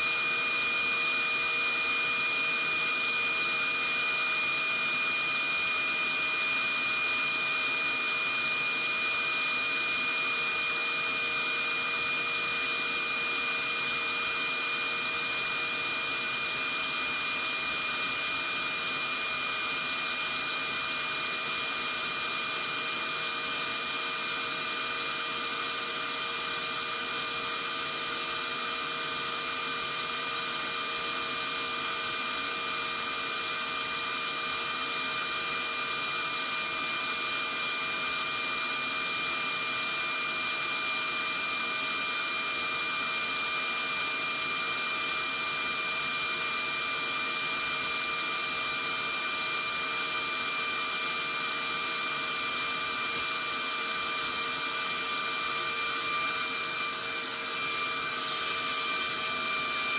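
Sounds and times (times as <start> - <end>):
vacuum cleaner motor whining: 0.0 - 59.9.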